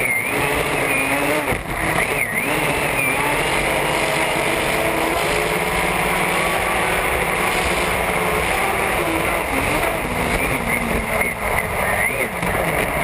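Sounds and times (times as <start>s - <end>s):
race boat engine running: 0.0s - 13.0s.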